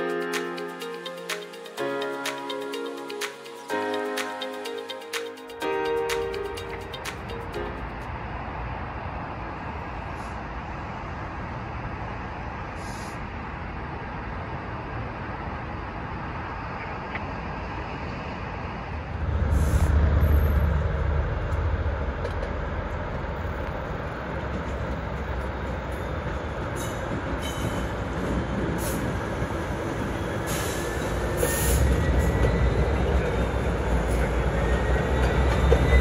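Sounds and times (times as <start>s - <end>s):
diesel locomotives rumbling: 0.0s - 36.0s.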